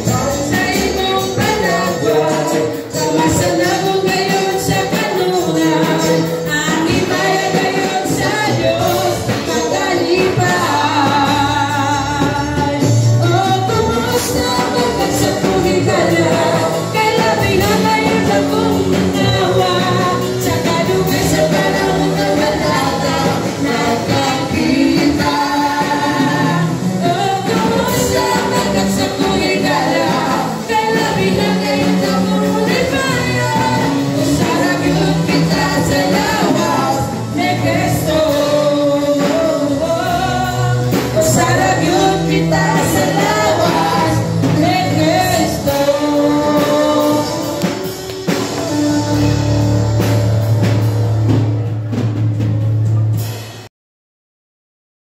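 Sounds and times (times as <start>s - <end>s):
lead singer singing: 0.0s - 51.4s
church band playing worship song: 0.0s - 53.7s.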